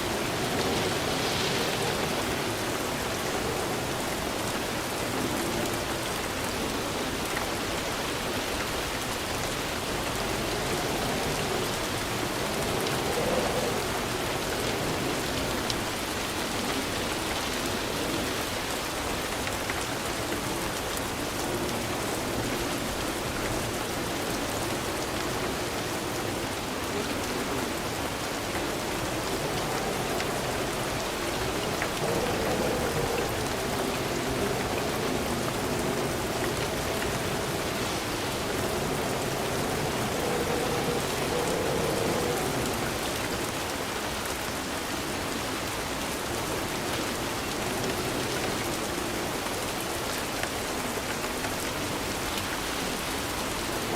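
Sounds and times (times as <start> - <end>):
rain patter: 0.0 - 53.9.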